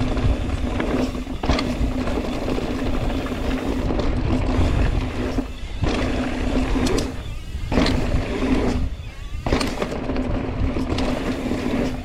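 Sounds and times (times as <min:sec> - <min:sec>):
bike tyres rumbling on dirt: 0:00.0 - 0:12.0
steady buzz: 0:00.0 - 0:12.0
wind buffeting microphone: 0:00.0 - 0:12.0.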